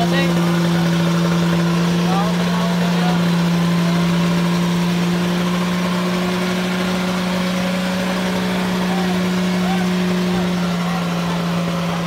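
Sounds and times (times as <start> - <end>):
car engine humming steadily: 0.0 - 12.0.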